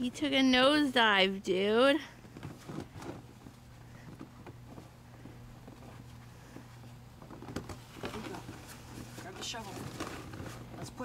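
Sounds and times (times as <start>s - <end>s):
clothing rustling: 2.1s - 11.0s.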